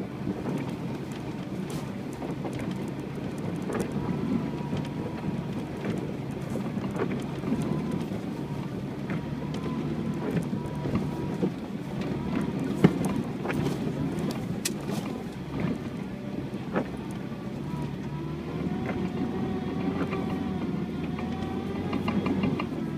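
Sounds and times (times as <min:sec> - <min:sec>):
car engine hum with whine: 0:00.0 - 0:22.9.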